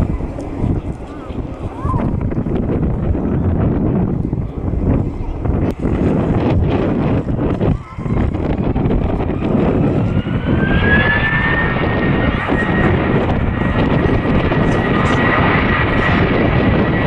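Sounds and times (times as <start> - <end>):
jet engines rumbling with fan whine: 0.0 - 17.0.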